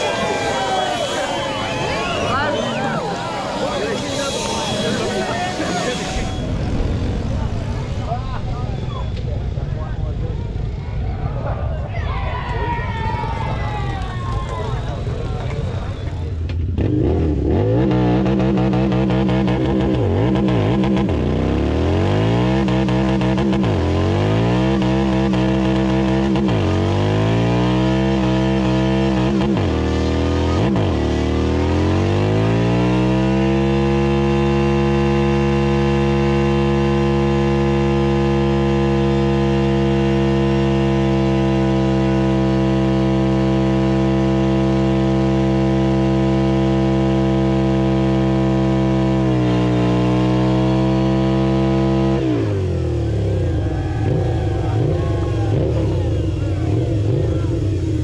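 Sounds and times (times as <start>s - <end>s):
motorcycle engine revving: 0.0s - 11.5s, 14.6s - 58.0s.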